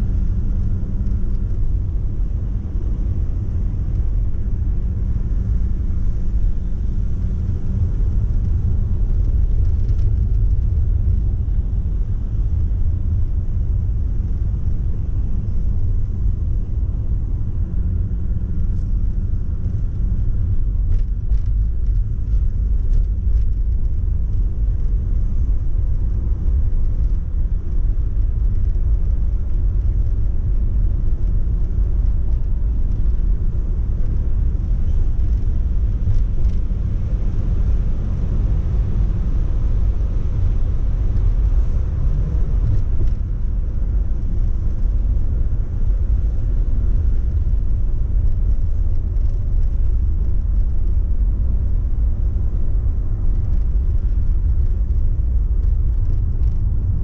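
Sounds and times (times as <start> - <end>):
car interior road and engine noise: 0.0 - 57.0.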